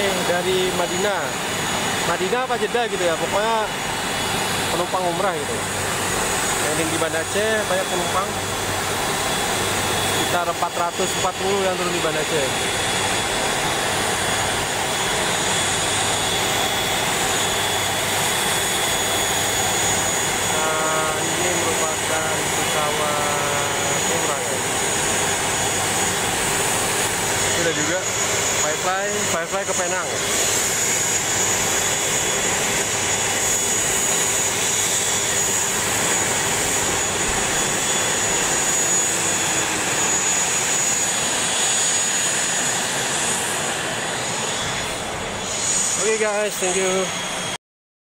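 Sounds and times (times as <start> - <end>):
high-pitched whine: 0.0 - 47.6
jet aircraft rush: 0.0 - 47.6.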